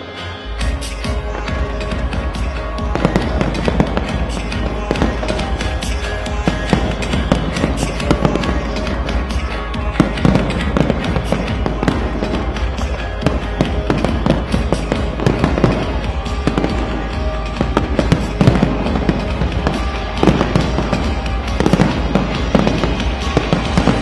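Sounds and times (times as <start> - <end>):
music playing: 0.0 - 24.0
fireworks bangs and crackles: 0.5 - 24.0.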